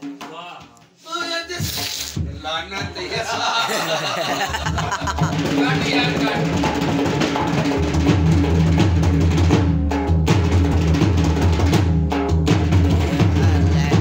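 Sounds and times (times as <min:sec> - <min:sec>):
barrel drum fast rhythm: 0:00.0 - 0:14.0.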